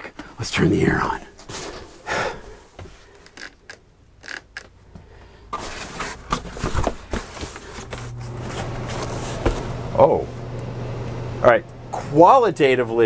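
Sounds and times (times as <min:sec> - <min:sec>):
air conditioner airflow: 0:00.0 - 0:13.0
steady low hum: 0:00.0 - 0:13.0.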